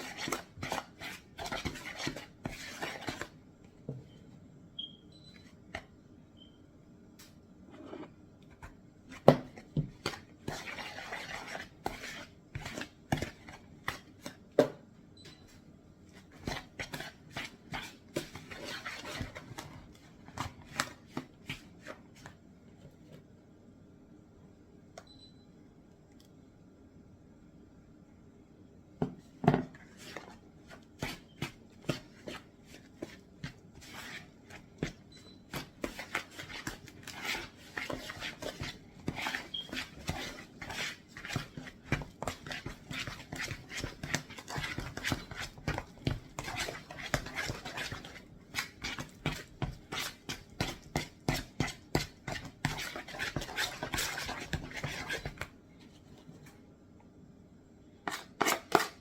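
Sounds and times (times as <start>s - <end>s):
batter being mixed by hand: 0.0s - 4.0s, 7.6s - 23.4s, 29.0s - 56.7s, 58.0s - 59.0s.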